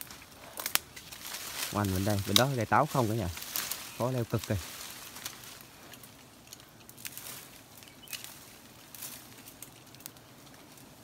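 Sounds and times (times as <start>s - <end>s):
quiet hiss: 0.0s - 11.0s
rustling brush and snapping branches: 0.0s - 11.0s.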